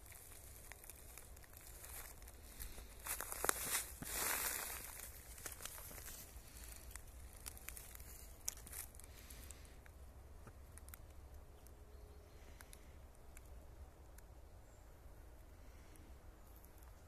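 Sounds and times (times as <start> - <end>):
crackles on dry leaves: 0.0 - 14.3.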